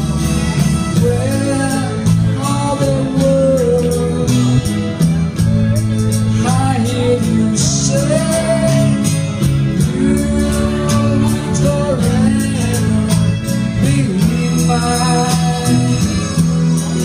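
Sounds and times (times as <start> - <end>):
bass guitar: 0.0 - 17.0
electric guitar: 0.0 - 17.0
person singing into microphone: 0.0 - 17.0.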